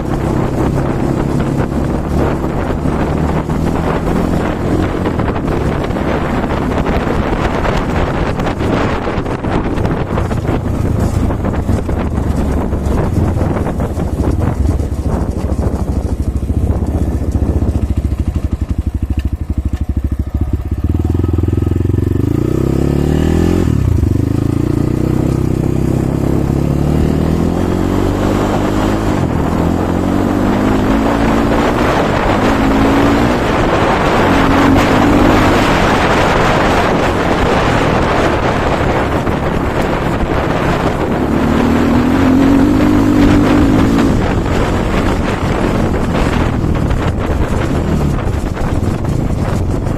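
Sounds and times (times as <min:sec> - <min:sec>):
motorcycle engine revving: 0:00.0 - 0:49.9
wind buffeting microphone: 0:00.0 - 0:49.9.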